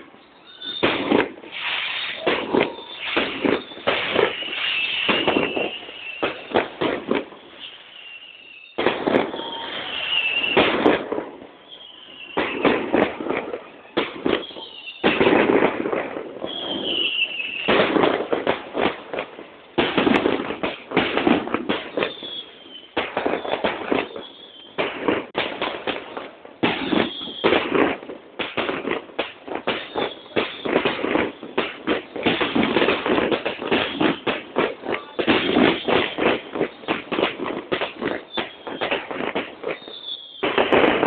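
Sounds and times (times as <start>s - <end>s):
firework bangs and crackling: 0.0s - 41.0s
firework whistles: 0.0s - 41.0s.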